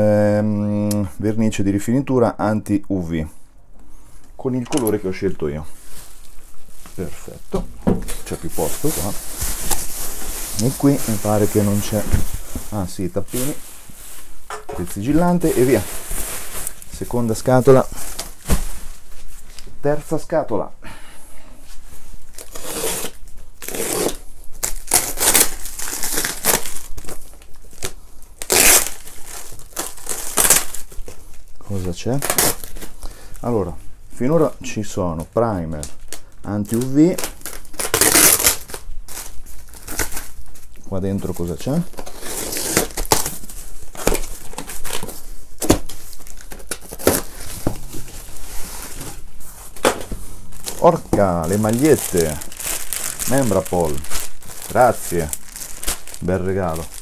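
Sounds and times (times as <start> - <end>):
packaging rustling and crackling: 4.4 - 19.8, 21.7 - 34.4, 35.1 - 57.0
plastic wrapping crinkling and tearing: 4.4 - 19.8, 21.7 - 57.0.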